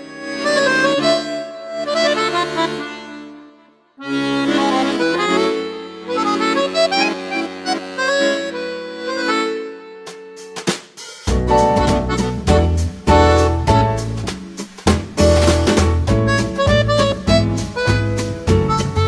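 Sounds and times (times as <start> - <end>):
accordion music: 0.0 - 19.0.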